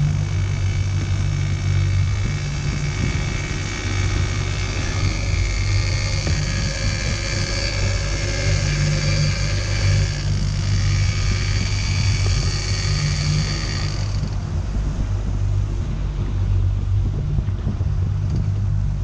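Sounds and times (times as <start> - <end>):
boat engine running: 0.0 - 19.0
steady high whine: 0.0 - 19.0.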